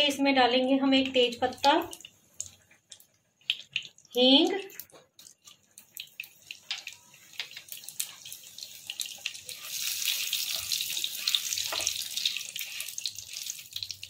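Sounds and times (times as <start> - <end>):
ghee sizzling and crackling: 0.0 - 14.0
spatula stirring in pan: 1.8 - 14.0.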